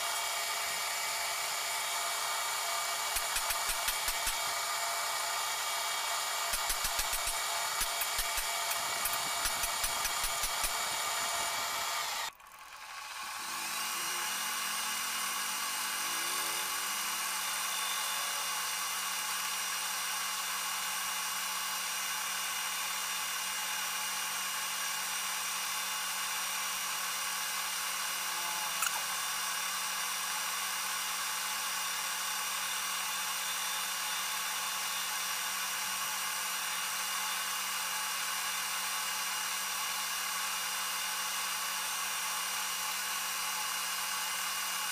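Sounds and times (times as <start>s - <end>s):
metal lathe whine: 0.0s - 44.9s.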